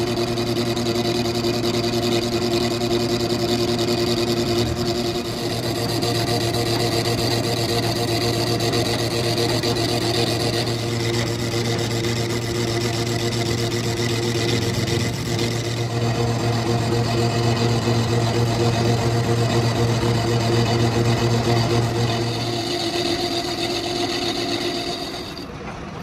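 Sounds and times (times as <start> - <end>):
cutting tool scraping metal: 0.0 - 25.5
lathe motor humming: 0.0 - 25.6.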